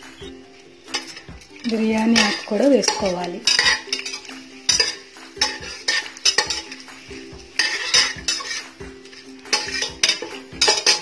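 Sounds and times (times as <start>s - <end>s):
oil sizzling: 0.0s - 11.0s
spatula scraping a steel pot: 0.8s - 11.0s.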